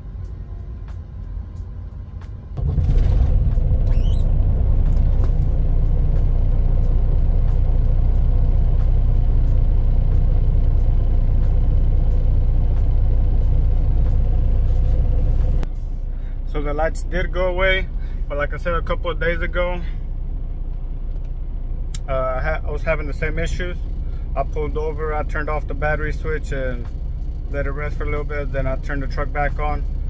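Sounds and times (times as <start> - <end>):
diesel engine starting and idling: 0.0 - 30.0.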